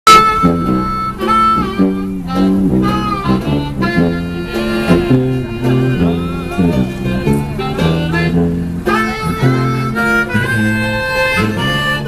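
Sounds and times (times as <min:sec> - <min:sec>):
harmonica melody: 0:00.0 - 0:12.0
plucked mandolin chords: 0:00.1 - 0:12.0
tuba bass line: 0:00.1 - 0:12.0.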